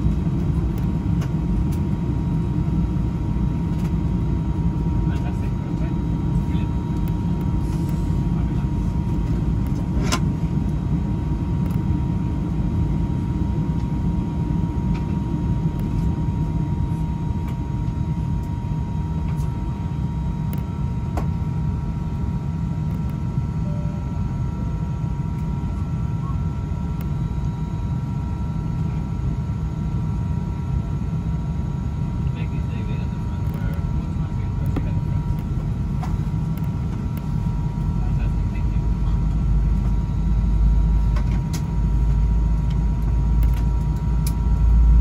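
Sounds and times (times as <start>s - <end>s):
airplane cabin rumble: 0.0s - 45.0s
higher whine: 0.0s - 45.0s
thin steady whine: 0.0s - 45.0s.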